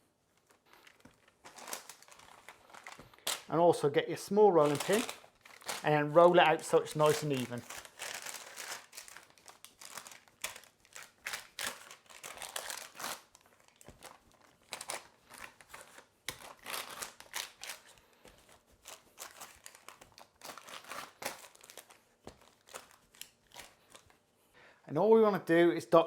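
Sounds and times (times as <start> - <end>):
baking paper crinkling under rolling pin: 0.3 - 24.3.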